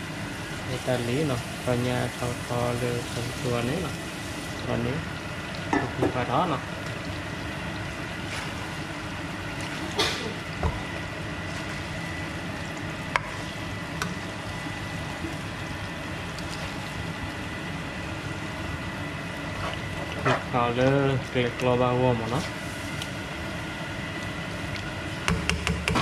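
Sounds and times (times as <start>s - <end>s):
chicken sizzling in a frying pan: 0.0s - 25.3s.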